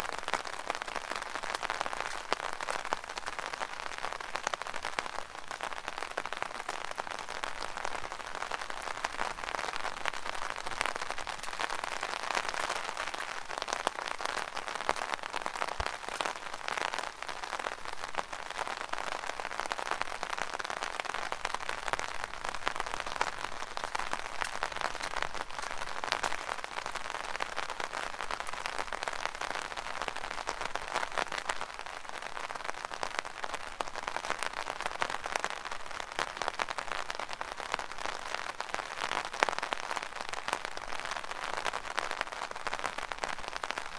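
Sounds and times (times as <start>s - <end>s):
rain on umbrella: 0.0s - 43.9s.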